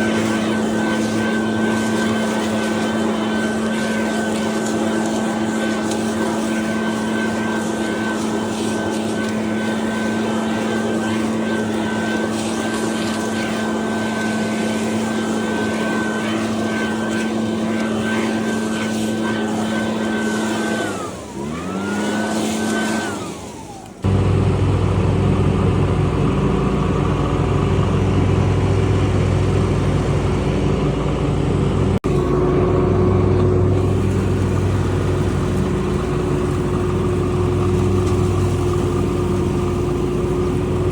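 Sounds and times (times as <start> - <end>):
leaf blower whining: 0.0 - 40.9.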